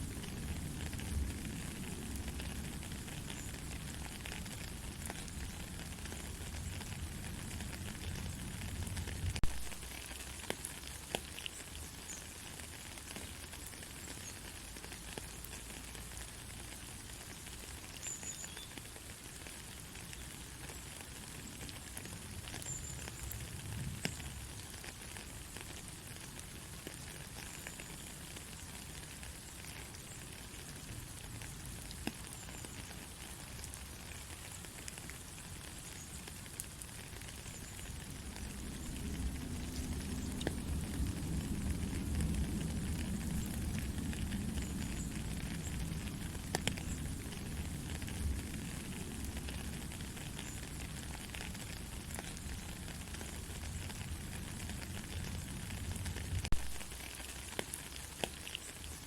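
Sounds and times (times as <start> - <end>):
raindrops ticking: 0.0 - 59.0
soft rain falling: 0.0 - 59.0.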